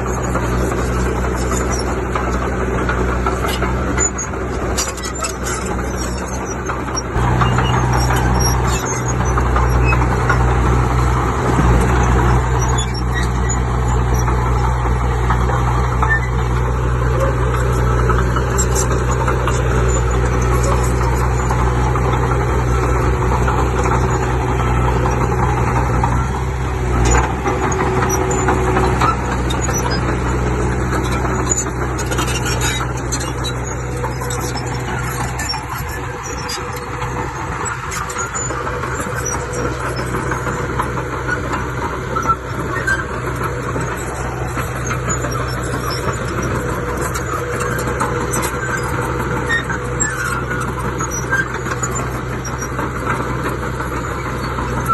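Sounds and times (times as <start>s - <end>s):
deep diesel engine drone: 0.0s - 54.9s.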